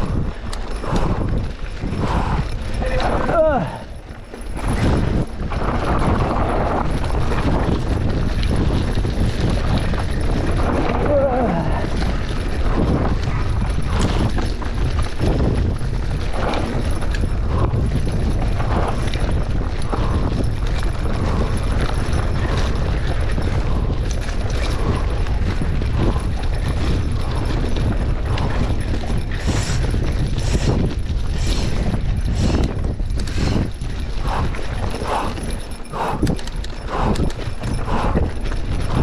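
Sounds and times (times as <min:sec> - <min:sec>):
bike knocking and rattling: 0:00.0 - 0:39.0
wind rumble on microphone: 0:00.0 - 0:39.0.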